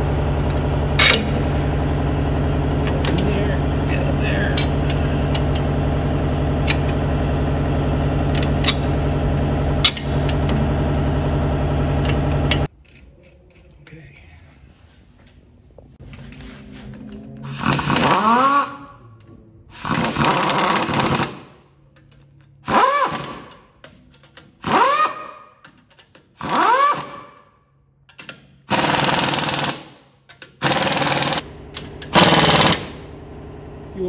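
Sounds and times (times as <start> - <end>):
impact wrench whining and hammering: 0.0 - 13.1, 16.0 - 21.6, 22.2 - 27.5, 28.1 - 33.3.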